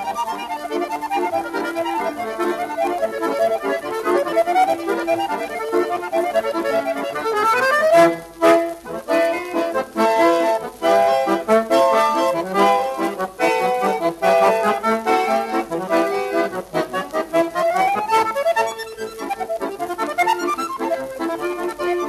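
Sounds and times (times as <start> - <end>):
lively accordion tune: 0.0 - 22.0.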